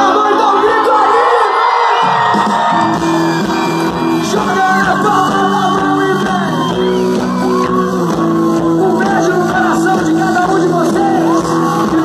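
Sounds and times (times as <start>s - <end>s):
live pop band with singing: 0.0s - 12.0s.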